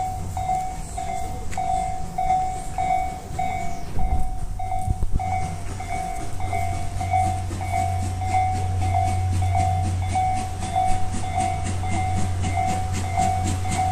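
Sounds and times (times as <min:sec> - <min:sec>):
level-crossing bell ringing: 0:00.0 - 0:13.9
low rumble: 0:00.0 - 0:13.9.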